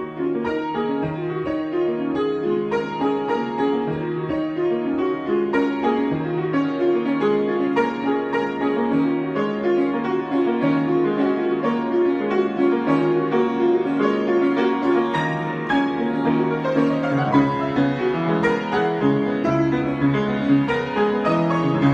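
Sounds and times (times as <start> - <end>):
piano improvisation: 0.0 - 21.9.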